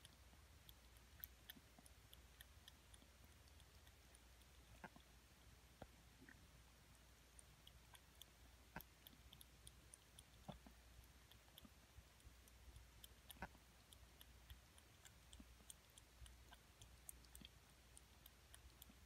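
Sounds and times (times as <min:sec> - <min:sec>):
cat eating from plastic bowl: 0:00.0 - 0:19.0.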